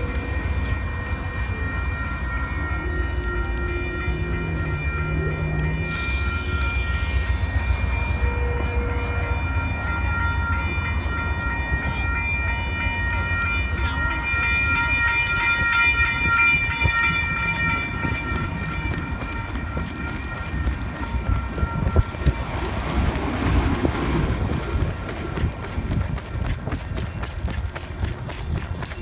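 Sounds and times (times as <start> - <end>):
locomotive engine rumble: 0.0 - 29.0.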